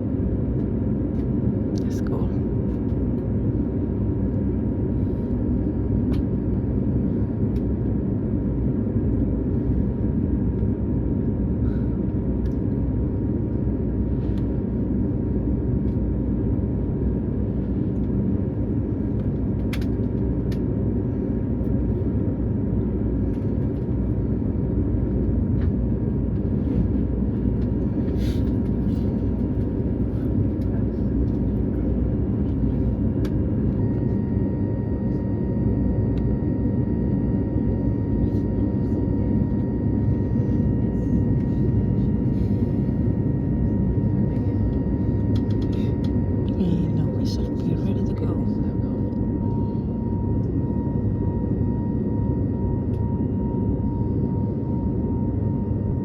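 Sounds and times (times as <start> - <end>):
aircraft cabin rumble and hum: 0.0 - 56.0.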